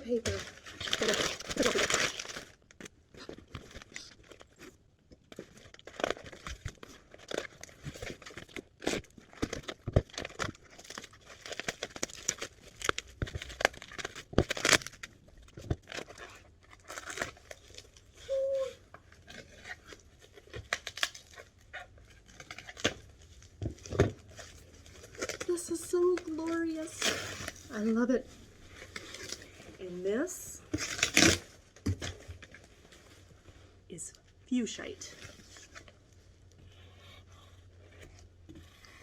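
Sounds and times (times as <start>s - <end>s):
paper tearing and crumpling: 0.0s - 4.7s, 5.3s - 33.3s.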